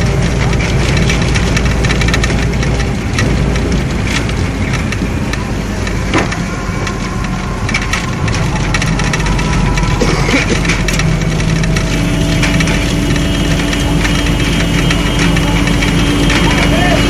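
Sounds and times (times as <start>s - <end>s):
road rumble: 0.0s - 17.0s
vehicle engine running: 0.0s - 17.0s.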